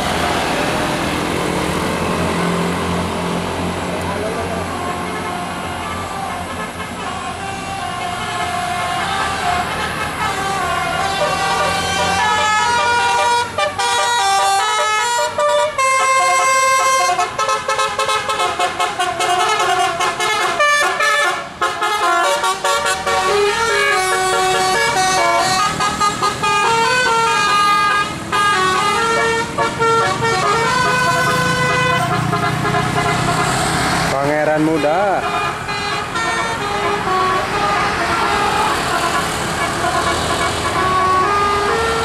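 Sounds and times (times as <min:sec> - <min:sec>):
musical bus air horn: 0:04.6 - 0:33.8, 0:34.5 - 0:42.0.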